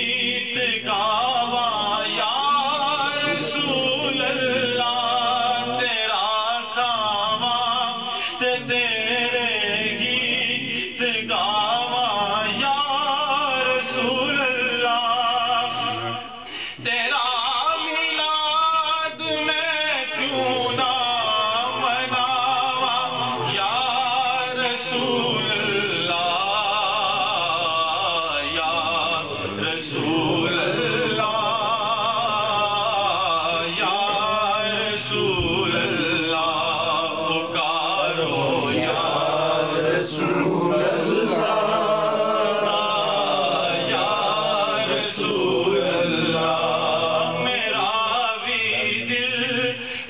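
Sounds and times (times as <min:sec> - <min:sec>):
man singing unaccompanied: 0:00.0 - 0:50.0.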